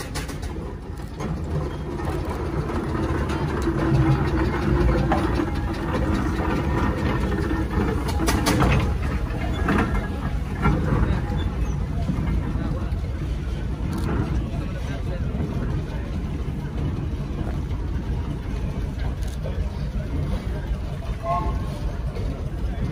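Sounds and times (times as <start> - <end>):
steam roller rumbling past: 0.0 - 22.9.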